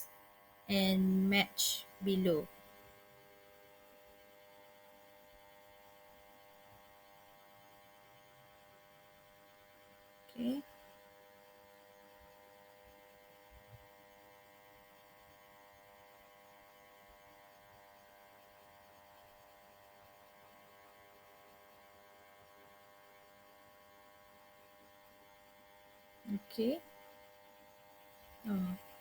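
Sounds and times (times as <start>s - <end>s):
faint electrical hum: 0.0s - 29.0s.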